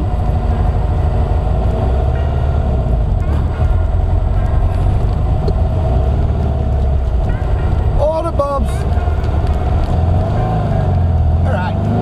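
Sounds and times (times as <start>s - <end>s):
car engine running while driving: 0.0s - 12.0s.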